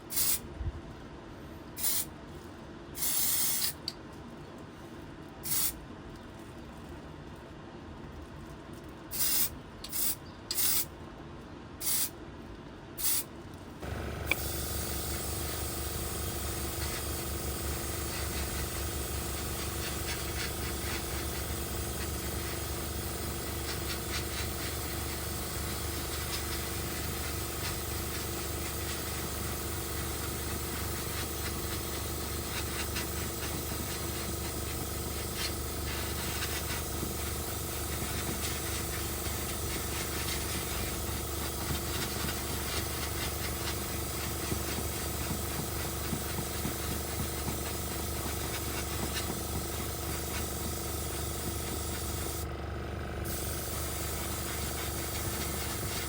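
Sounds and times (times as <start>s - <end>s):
short hissing bursts: 0.1s - 0.4s, 1.8s - 2.1s, 3.0s - 3.8s, 5.4s - 5.8s, 9.1s - 10.9s, 11.8s - 12.1s, 13.0s - 13.2s, 13.8s - 52.5s, 53.2s - 56.0s.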